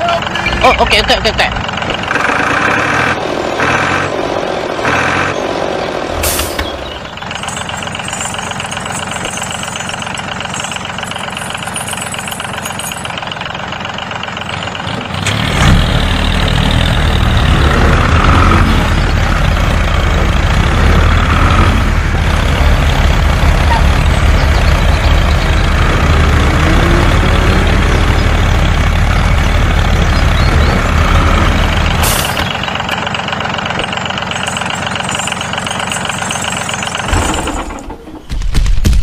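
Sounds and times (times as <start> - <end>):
truck engine rumbling: 0.0 - 39.0.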